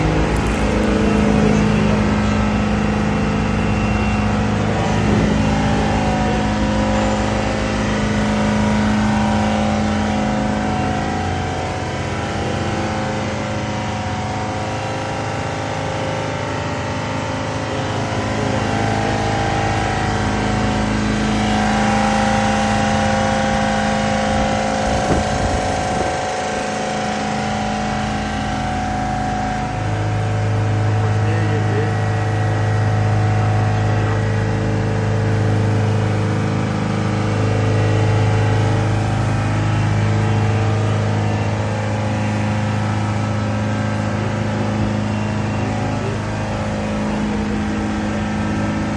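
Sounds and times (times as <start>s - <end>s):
compressor humming: 0.0s - 48.9s.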